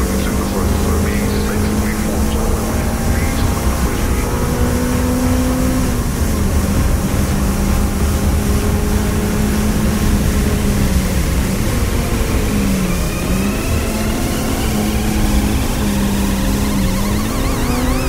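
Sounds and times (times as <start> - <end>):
car engine pulling hard: 0.0 - 18.0
road and wet tyre noise: 0.0 - 18.0.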